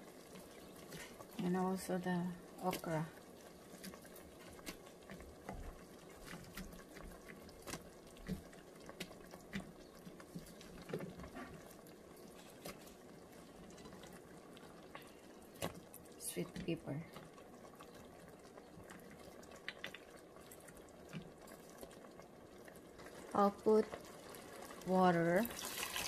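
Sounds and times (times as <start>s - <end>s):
pot of beans simmering: 0.0s - 26.0s.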